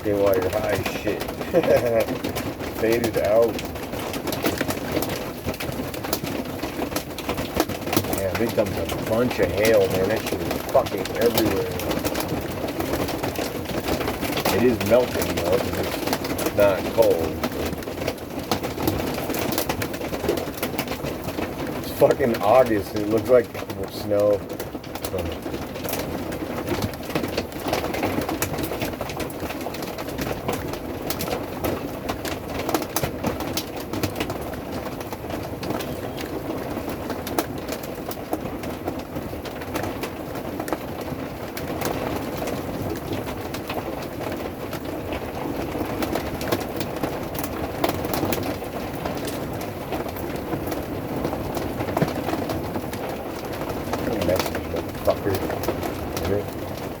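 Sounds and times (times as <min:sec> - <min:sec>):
rain on a camper roof: 0:00.0 - 0:57.0.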